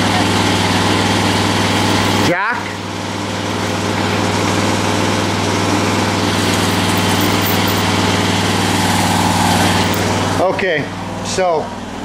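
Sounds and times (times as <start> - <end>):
riding lawn mower engine idling: 0.0 - 12.0.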